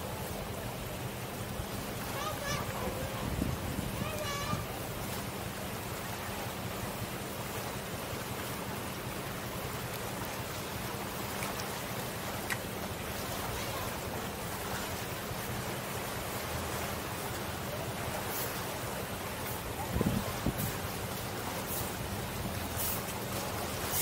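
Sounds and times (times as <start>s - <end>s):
waves washing against seawall: 0.0s - 24.0s.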